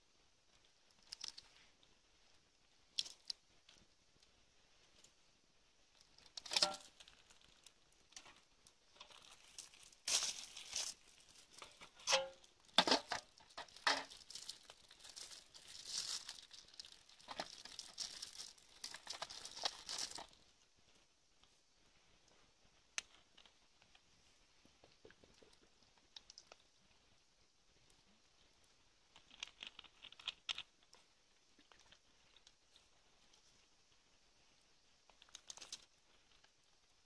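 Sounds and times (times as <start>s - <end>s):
crinkly material crumpled and torn: 0.5s - 4.3s, 5.9s - 21.5s, 22.3s - 27.2s, 28.0s - 37.0s.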